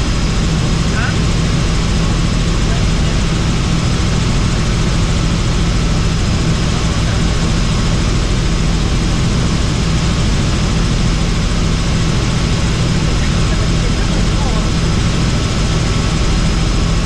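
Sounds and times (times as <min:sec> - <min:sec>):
helicopter rotor and engine drone: 0:00.0 - 0:17.0.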